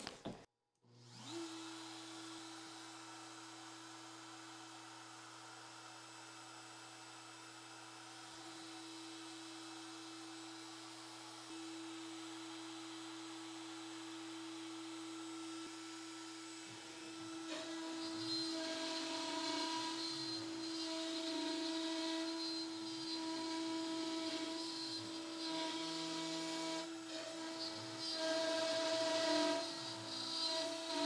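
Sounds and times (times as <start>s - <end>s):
router spinning with a whine: 0.2s - 31.0s
router bit cutting wood: 1.0s - 31.0s.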